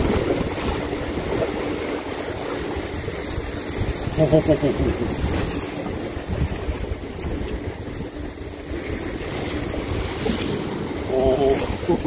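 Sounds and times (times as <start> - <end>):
water washing: 0.0 - 12.0
wind buffeting microphone: 0.0 - 12.0.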